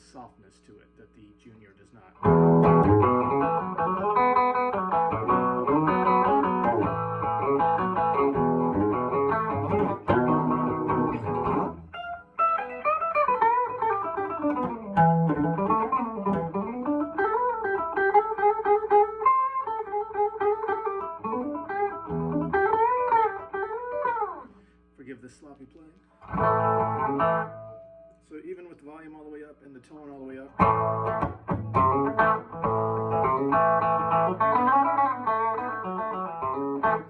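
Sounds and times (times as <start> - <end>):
electric guitar playing: 2.2 - 24.6, 26.2 - 28.2, 30.5 - 37.0.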